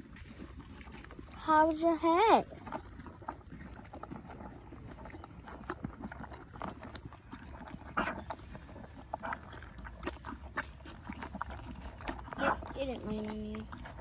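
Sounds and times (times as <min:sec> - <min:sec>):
horses crunching hay: 0:00.0 - 0:14.0.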